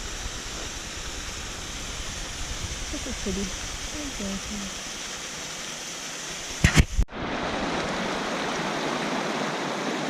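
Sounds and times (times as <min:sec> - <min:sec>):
rushing water: 0:00.0 - 0:10.0.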